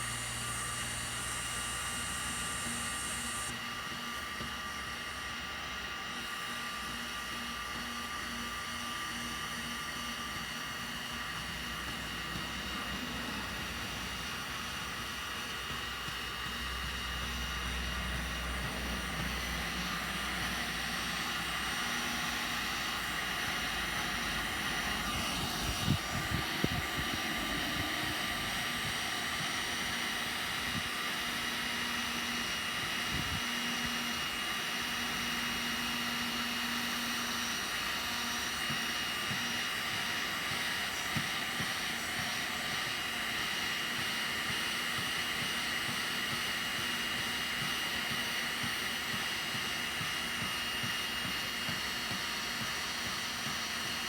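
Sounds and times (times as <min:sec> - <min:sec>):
heat gun fan whining: 0:00.0 - 0:54.0.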